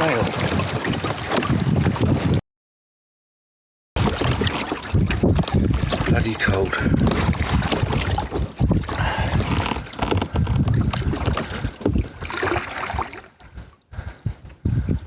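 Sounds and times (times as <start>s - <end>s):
wind buffeting microphone: 0.0s - 2.4s, 4.0s - 15.0s.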